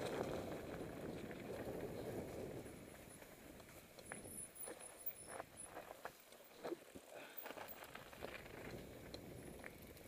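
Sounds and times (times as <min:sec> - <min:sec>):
bike tyres crackling over dirt: 0:00.0 - 0:10.0.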